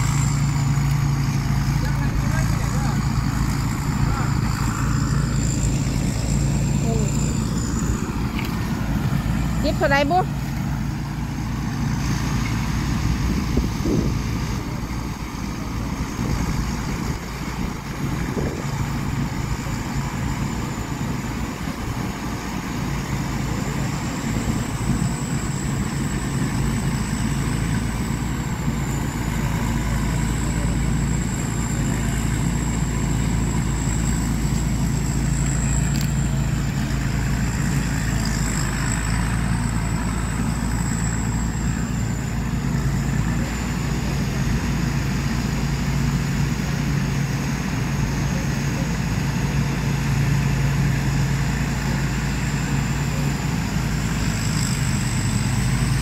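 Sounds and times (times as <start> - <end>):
distant combine harvester engine: 0.0 - 56.0.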